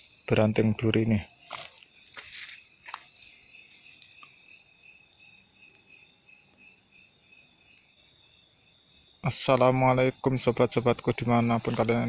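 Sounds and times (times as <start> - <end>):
crickets and insects chirping: 0.0 - 12.0
rapid pulsing insect chirp: 0.0 - 12.0.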